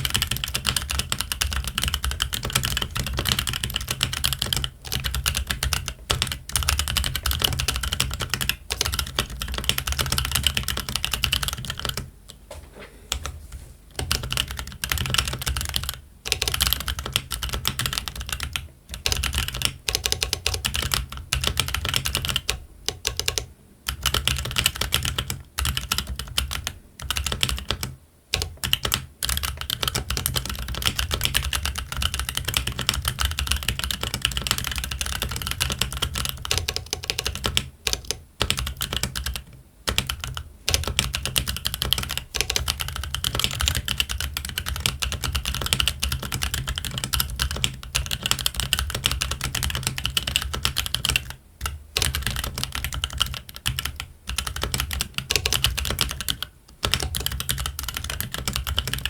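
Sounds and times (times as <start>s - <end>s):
mechanical keyboard typing: 0.0s - 12.4s, 13.1s - 59.0s.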